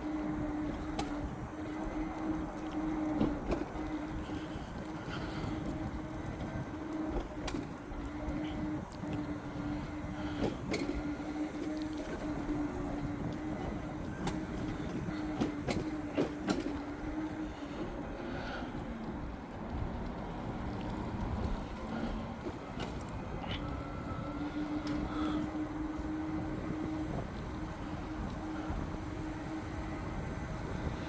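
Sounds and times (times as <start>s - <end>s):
road rumble: 0.0s - 31.0s
vehicle motor humming: 0.0s - 31.0s.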